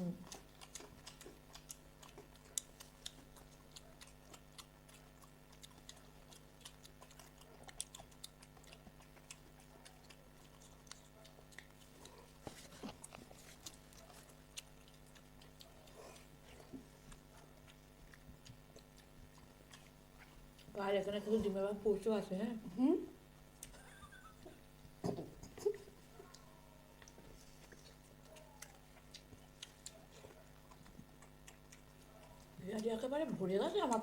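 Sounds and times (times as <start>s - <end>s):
chewing: 0.0s - 21.6s, 23.2s - 34.0s.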